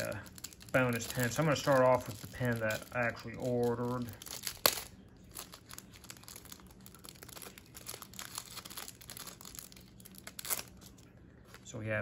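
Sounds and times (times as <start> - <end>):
packaging crinkling: 0.0 - 11.8.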